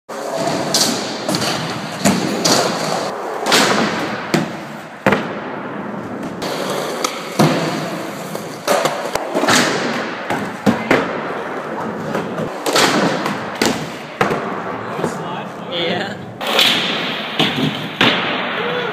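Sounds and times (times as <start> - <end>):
skateboard wheels rolling on floor: 0.1 - 18.9.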